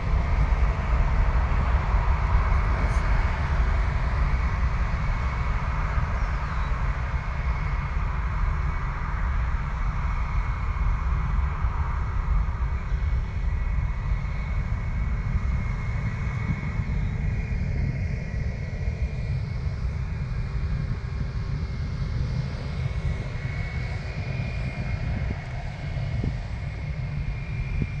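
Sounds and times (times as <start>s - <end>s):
jet airliner engine rumble and whine: 0.0s - 28.0s.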